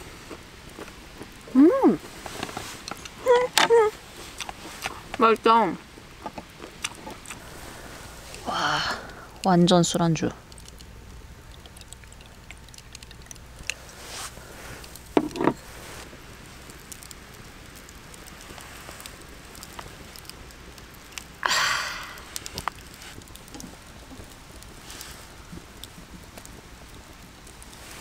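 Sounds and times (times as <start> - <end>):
charcoal fire crackling: 0.0 - 28.0.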